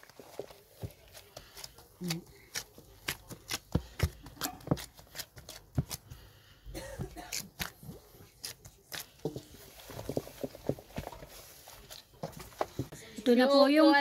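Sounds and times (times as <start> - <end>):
hands kneading dough: 0.0 - 12.9.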